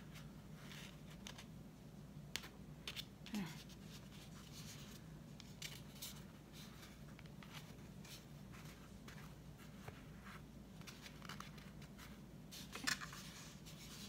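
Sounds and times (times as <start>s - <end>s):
low room hum: 0.0s - 14.0s
hands rustling and scraping: 2.4s - 14.0s.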